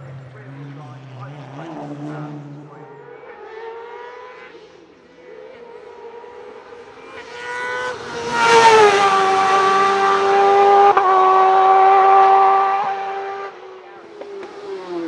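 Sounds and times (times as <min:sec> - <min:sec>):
race car engine passing: 0:00.0 - 0:15.0.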